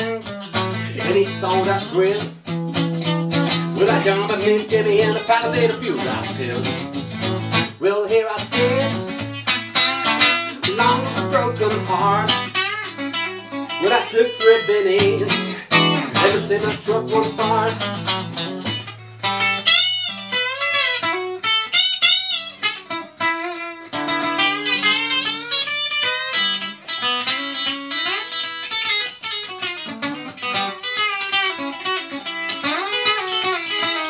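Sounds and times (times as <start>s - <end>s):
lead guitar solo: 0.0s - 34.0s.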